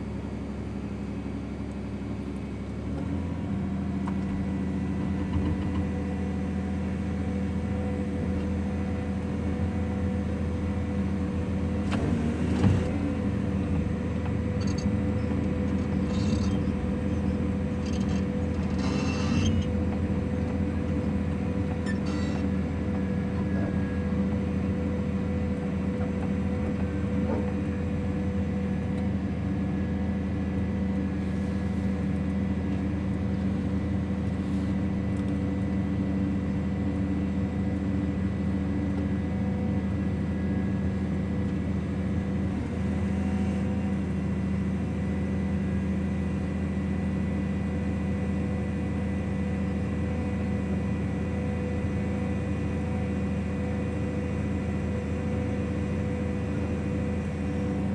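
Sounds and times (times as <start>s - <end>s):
construction machinery diesel drone: 0.0s - 57.9s.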